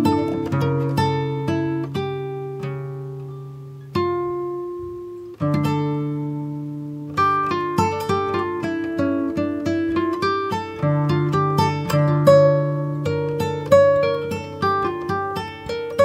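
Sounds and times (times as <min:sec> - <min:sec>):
acoustic guitar plucked notes: 0:00.0 - 0:16.0.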